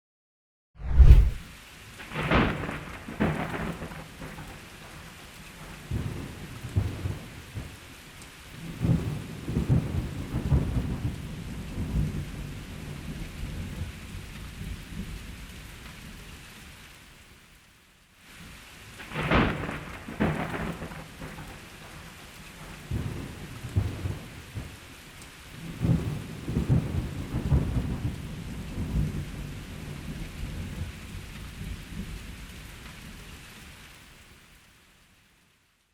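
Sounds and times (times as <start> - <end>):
heavy rain: 0.9 - 35.9.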